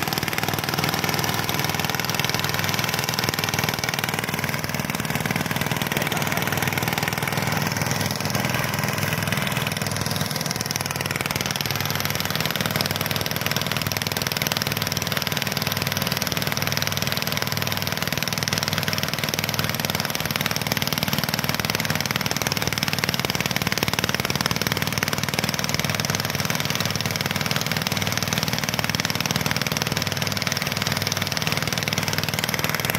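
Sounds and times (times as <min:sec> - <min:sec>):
small engine running: 0:00.0 - 0:32.9.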